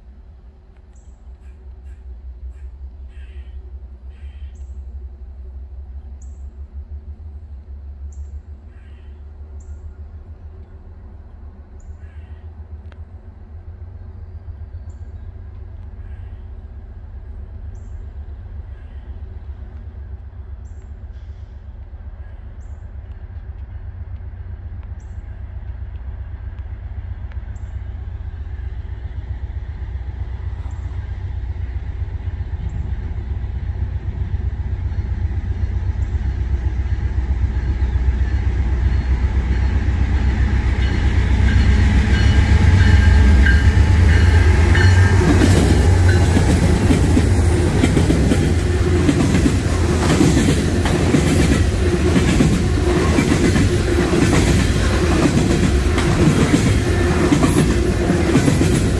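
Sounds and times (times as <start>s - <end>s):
diesel freight train rumbling: 0.0s - 58.9s.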